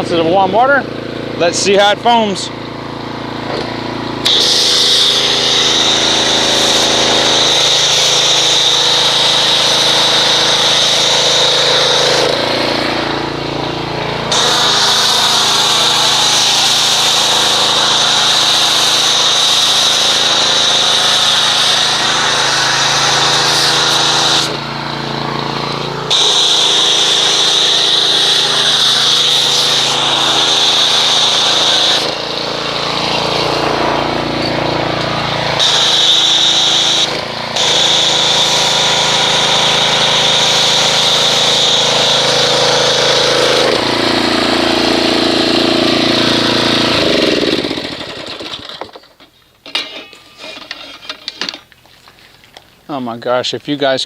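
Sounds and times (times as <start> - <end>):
pump humming: 0.0 - 49.8
pressure washer spraying foam: 1.4 - 48.8.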